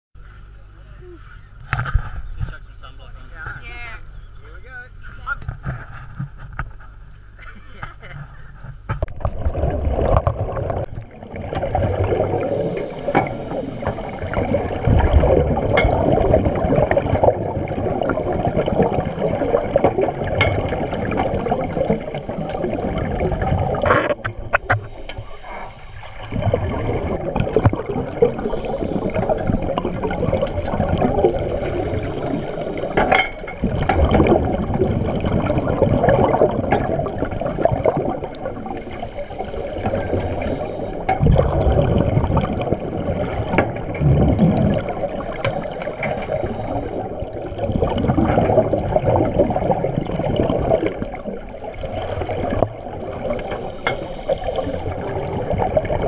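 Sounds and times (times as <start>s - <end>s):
muffled underwater water noise: 0.2s - 56.0s
scuba regulator bubbles: 8.0s - 56.0s.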